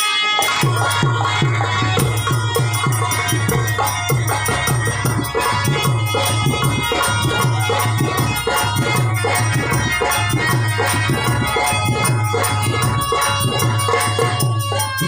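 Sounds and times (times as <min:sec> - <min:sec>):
fast percussion ticking: 0:00.0 - 0:15.0
harmonium holding notes: 0:00.0 - 0:15.0
steady drum beat: 0:00.4 - 0:15.0.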